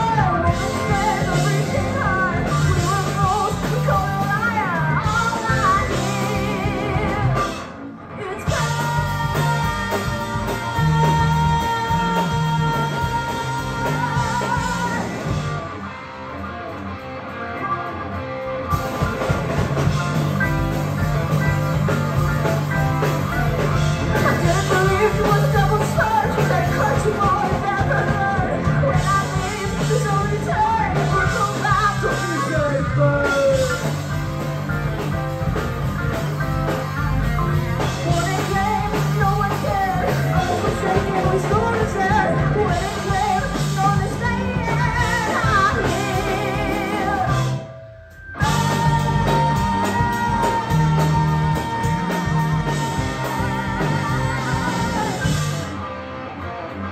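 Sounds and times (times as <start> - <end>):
person singing: 0.0 - 15.7, 21.4 - 34.1, 37.7 - 55.8
bending guitar lead line: 0.0 - 56.9
live rock band playing: 0.0 - 56.9.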